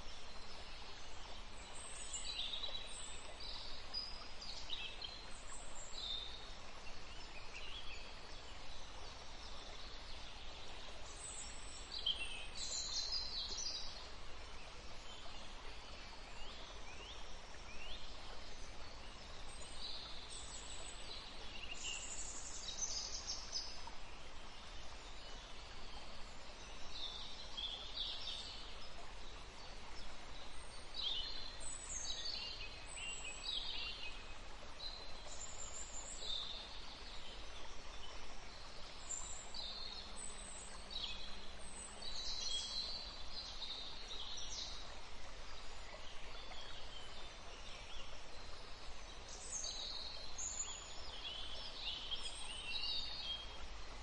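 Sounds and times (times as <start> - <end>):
background hiss: 0.0 - 54.0.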